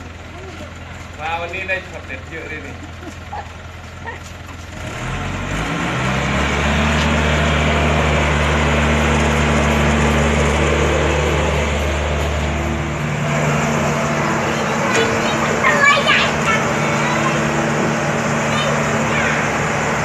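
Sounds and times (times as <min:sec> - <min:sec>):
excavator diesel engine revving: 0:00.0 - 0:20.0.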